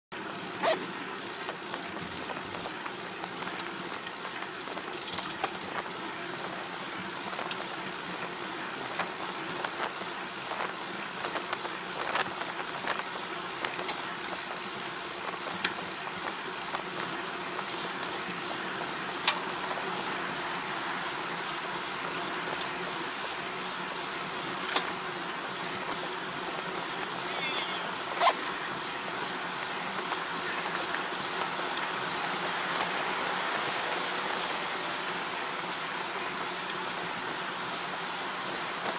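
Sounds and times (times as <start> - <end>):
ride running: 0.1 - 38.9.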